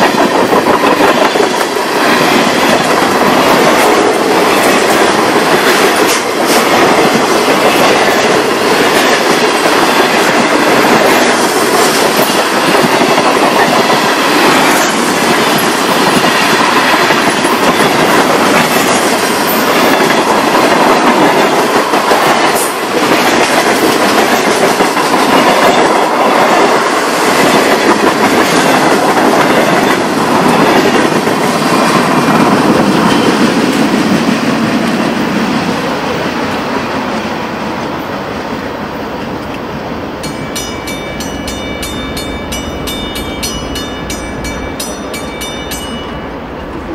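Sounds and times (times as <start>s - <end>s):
freight train wheels rushing: 0.0s - 46.9s.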